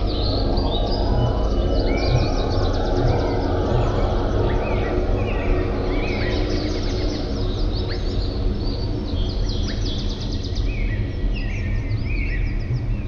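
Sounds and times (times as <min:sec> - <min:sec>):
low background rumble: 0:00.0 - 0:13.0
songbirds chirping and trilling: 0:00.0 - 0:13.0.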